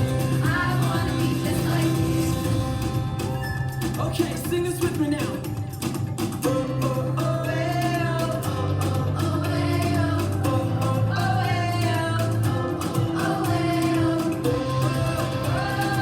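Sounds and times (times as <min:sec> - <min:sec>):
group singing: 0:00.0 - 0:03.4, 0:06.4 - 0:16.0
bass accompaniment: 0:00.0 - 0:16.0.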